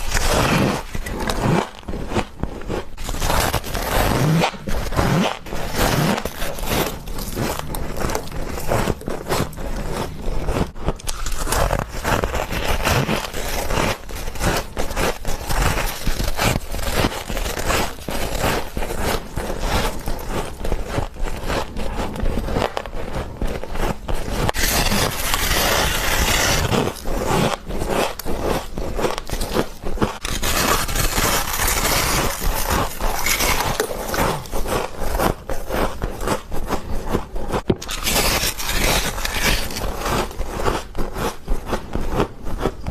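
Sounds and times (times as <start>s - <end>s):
frost crunching under chewing: 0.0s - 42.9s.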